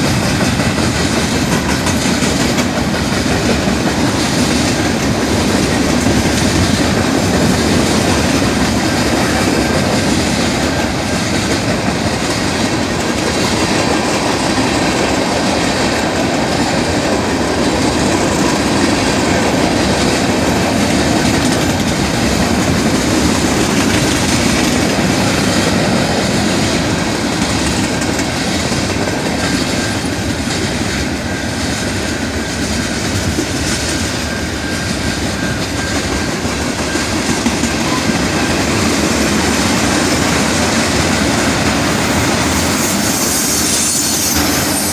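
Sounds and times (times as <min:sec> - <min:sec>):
train rail cars passing: 0:00.0 - 0:44.9.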